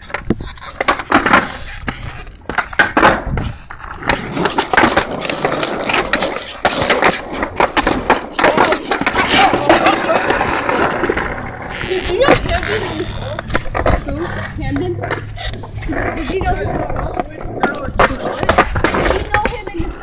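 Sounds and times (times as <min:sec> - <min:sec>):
skateboard clacks and knocks: 0:00.0 - 0:20.0
skateboard rolling: 0:00.0 - 0:20.0.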